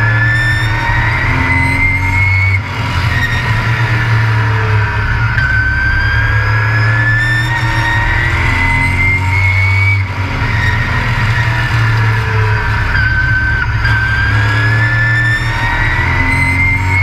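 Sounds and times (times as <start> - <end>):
truck engine running hard: 0.0 - 17.0.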